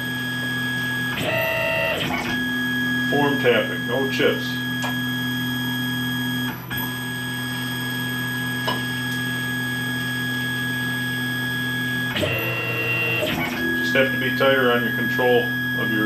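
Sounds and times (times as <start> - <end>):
electric motor humming and whining: 0.0 - 16.0.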